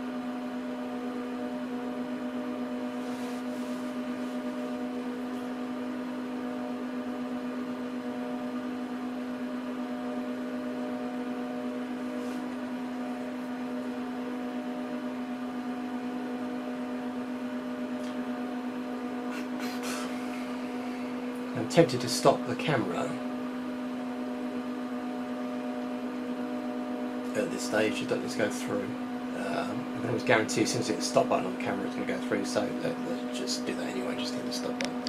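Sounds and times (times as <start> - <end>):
server cooling fans humming: 0.0 - 35.0.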